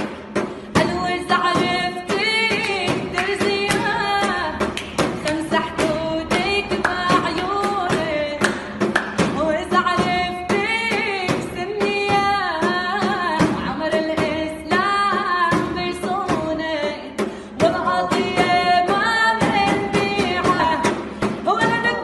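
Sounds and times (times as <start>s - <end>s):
sharp percussion strikes: 0.0s - 22.0s.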